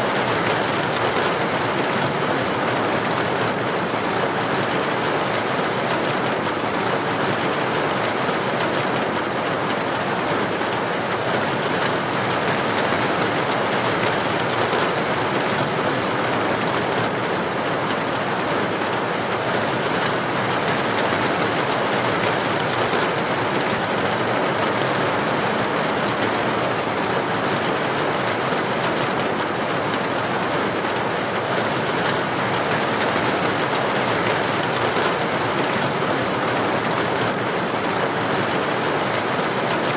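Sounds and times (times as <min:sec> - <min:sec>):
heavy rain on a street: 0:00.0 - 0:39.9.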